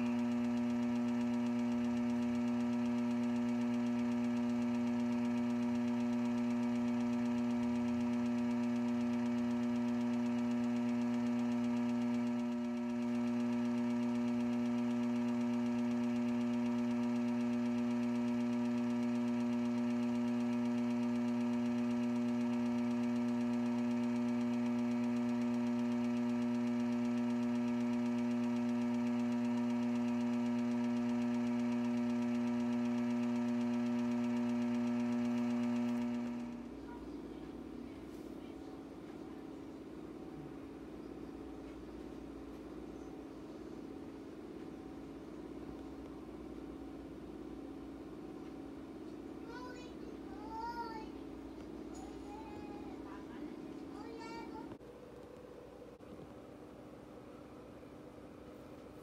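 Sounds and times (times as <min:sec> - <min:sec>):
electric motor hum: 0:00.0 - 0:38.2, 0:40.4 - 0:54.8.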